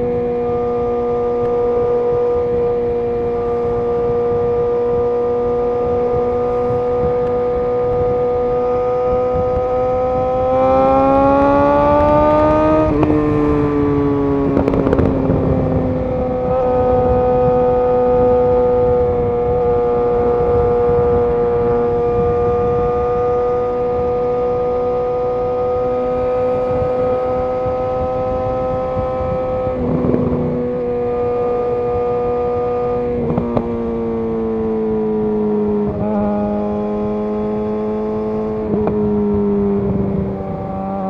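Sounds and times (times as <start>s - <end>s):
motorcycle engine cruising and revving: 0.0s - 41.0s.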